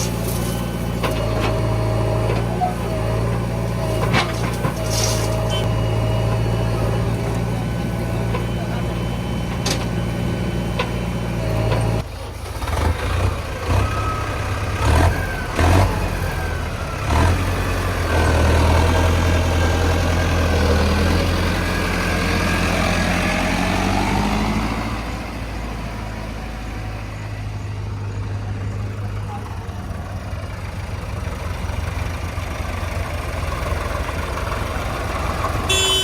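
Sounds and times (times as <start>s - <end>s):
backhoe diesel engine revving: 0.0s - 36.0s.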